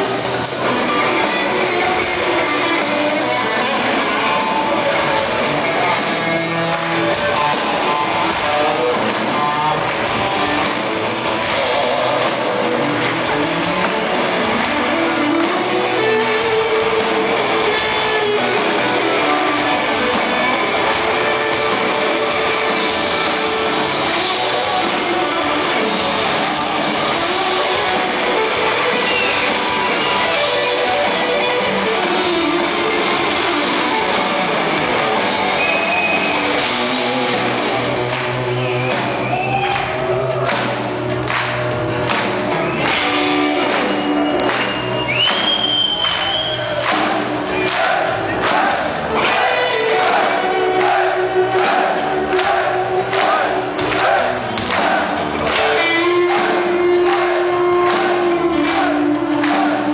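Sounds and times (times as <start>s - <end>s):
electric guitar: 0.0s - 59.9s
live rock band playing: 0.0s - 59.9s.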